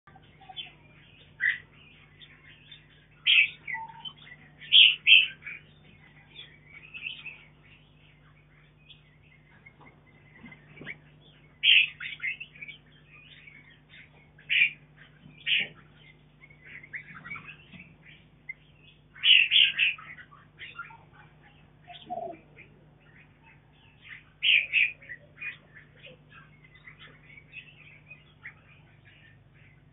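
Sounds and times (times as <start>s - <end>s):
birds chirping calls: 0.0s - 29.9s
steady low hum: 0.1s - 29.9s.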